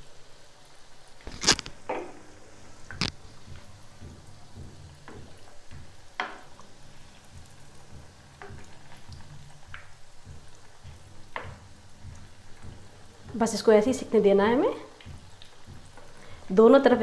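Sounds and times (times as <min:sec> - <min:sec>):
patties sizzling in oil: 0:00.0 - 0:17.0.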